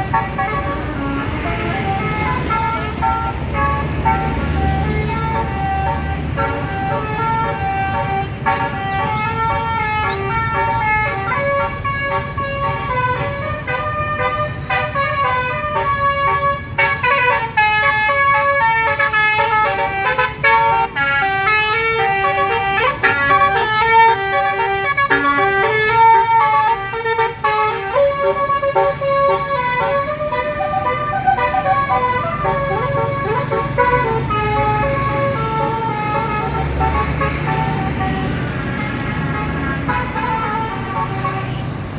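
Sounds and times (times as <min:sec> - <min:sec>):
bus engine running: 0:00.0 - 0:41.9
multi-tone musical air horn: 0:00.0 - 0:41.9.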